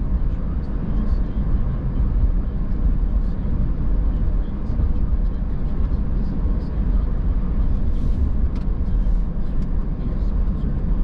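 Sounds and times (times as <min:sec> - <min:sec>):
tyres and engine rumble: 0:00.0 - 0:11.0.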